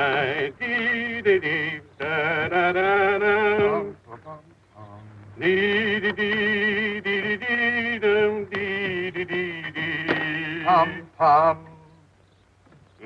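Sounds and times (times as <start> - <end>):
man singing wordless tune: 0.0 - 12.2.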